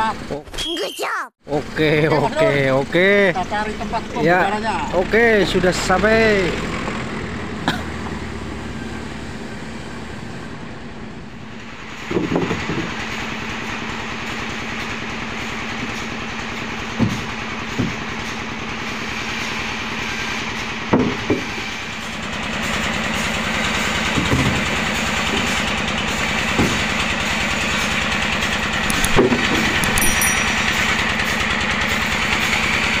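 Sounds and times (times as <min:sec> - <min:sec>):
engine idling: 0:01.5 - 0:08.8, 0:10.1 - 0:33.0.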